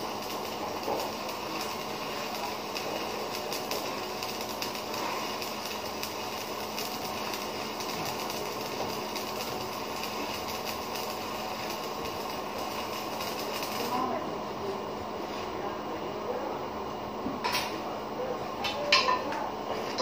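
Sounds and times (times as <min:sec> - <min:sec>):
arc welding crackling: 0:00.0 - 0:20.0.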